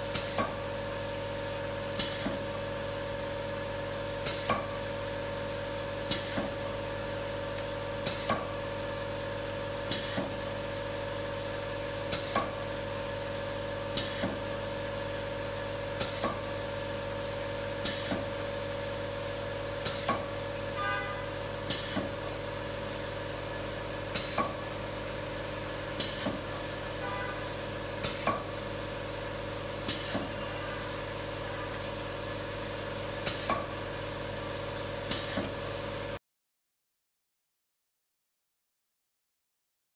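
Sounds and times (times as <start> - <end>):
machine humming: 0.0 - 36.2.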